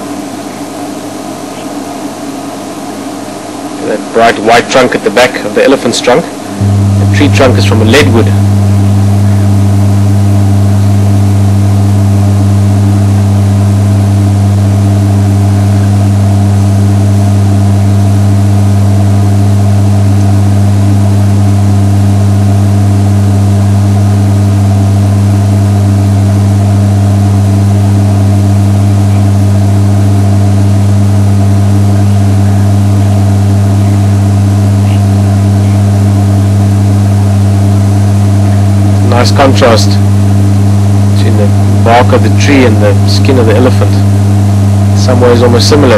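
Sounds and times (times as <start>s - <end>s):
low-pitched hum: 5.2s - 45.9s.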